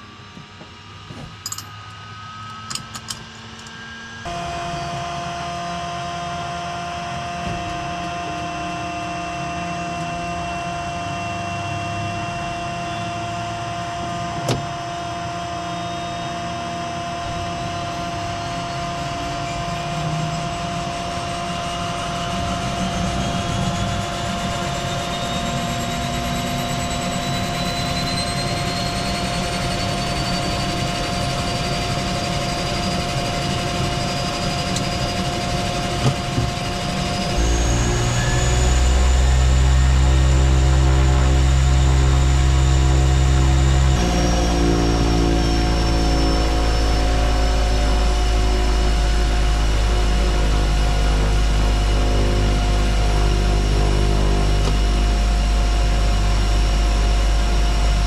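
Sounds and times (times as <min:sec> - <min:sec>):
turboprop engine whine: 0:00.0 - 0:58.0.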